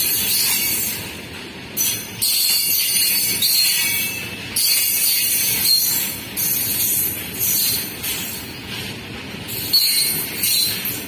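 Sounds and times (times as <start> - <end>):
train wheels rattling on rails: 0.0 - 11.0.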